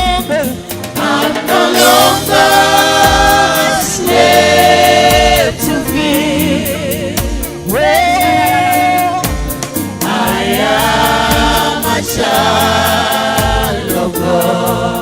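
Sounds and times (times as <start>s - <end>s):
band with steady beat: 0.0s - 15.0s
voices singing long notes: 0.0s - 15.0s.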